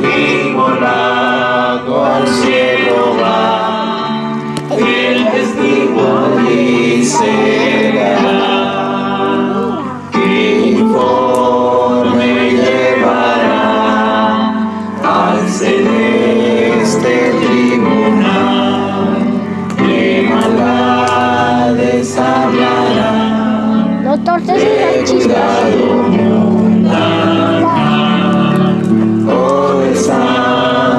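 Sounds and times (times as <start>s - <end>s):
choir singing a hymn: 0.0s - 30.9s.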